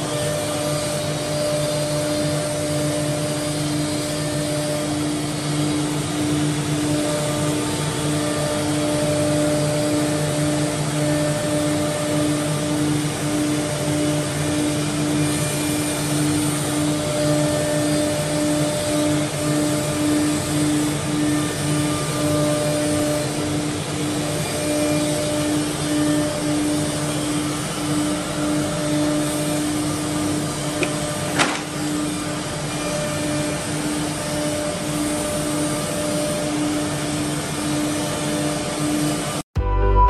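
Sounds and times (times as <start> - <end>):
router machine humming: 0.0 - 39.4.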